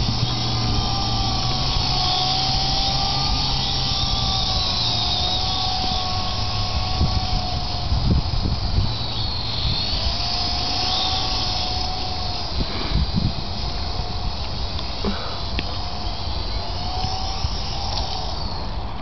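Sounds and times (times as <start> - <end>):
helicopter motor and rotor whine: 0.0 - 19.0
low rumbling noise: 0.0 - 19.0.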